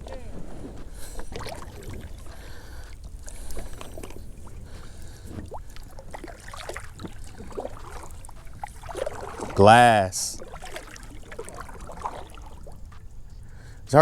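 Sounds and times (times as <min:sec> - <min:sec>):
paddle splashing water: 0:00.0 - 0:13.9.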